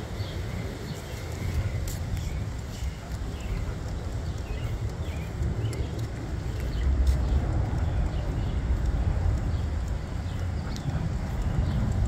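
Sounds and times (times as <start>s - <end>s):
footsteps on concrete: 0.0s - 12.0s
wind rumble on microphone: 0.0s - 12.0s.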